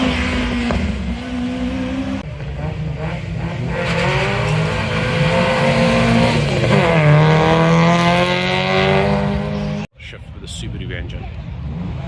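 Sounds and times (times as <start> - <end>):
rally car engine accelerating: 0.0 - 9.9.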